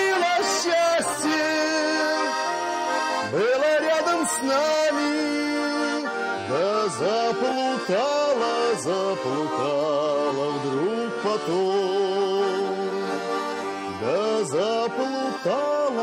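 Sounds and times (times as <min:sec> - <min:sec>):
accordions playing folk tune: 0:00.0 - 0:16.0
man singing: 0:00.0 - 0:16.0.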